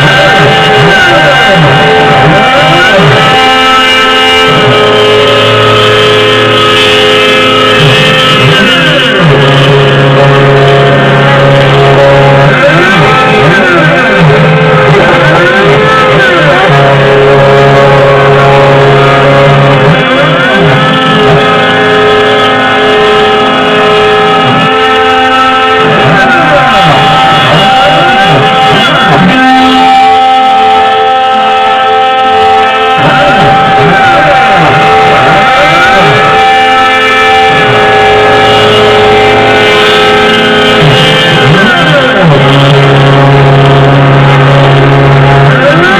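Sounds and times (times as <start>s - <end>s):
music with long low notes: 0.0s - 45.9s.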